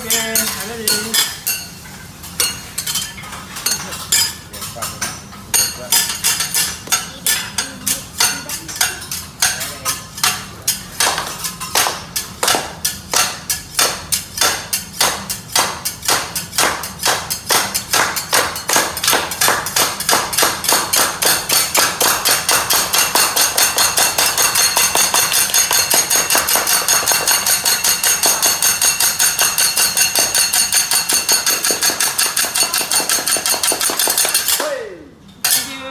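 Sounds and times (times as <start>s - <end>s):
metal spatulas striking griddle: 0.0s - 34.8s.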